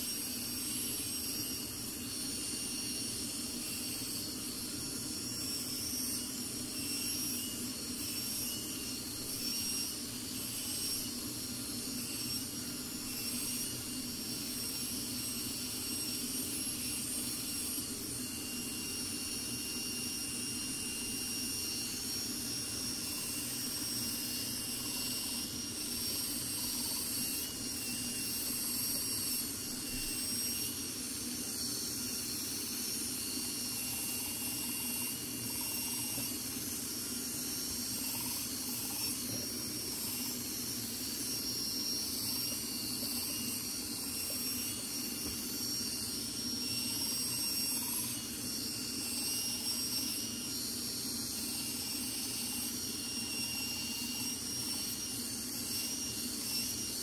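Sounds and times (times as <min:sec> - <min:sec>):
belt grinder whining on steel: 0:00.0 - 0:57.0.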